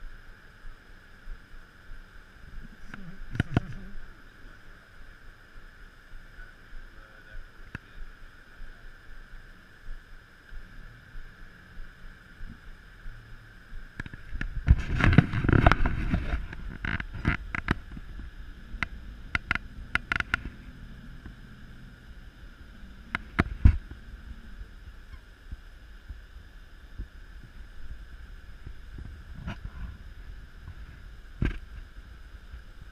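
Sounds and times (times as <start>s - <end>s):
rush of noise: 0.0s - 32.9s
steady faint tone: 0.0s - 32.9s.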